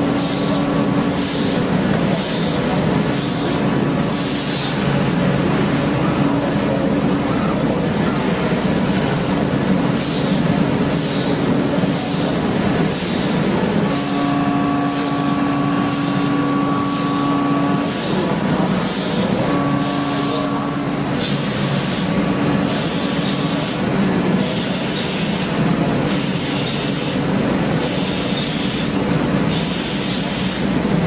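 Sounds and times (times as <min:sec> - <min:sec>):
industrial machinery running: 0:00.0 - 0:31.0.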